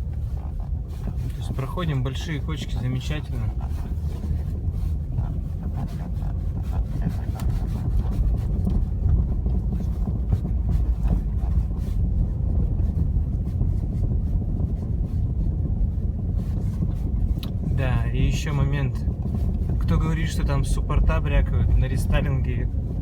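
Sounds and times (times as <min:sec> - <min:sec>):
car driving rumble: 0:00.0 - 0:23.0
suspension knocking: 0:00.0 - 0:23.0.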